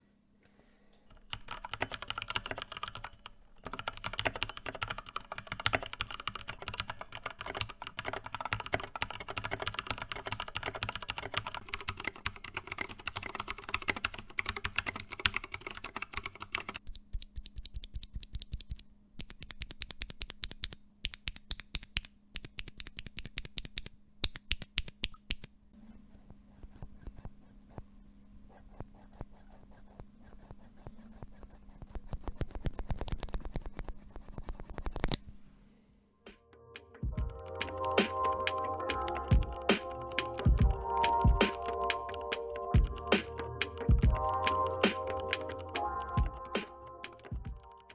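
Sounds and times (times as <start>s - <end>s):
mechanical keyboard typing: 1.1s - 25.5s, 31.8s - 35.2s, 37.2s - 47.9s.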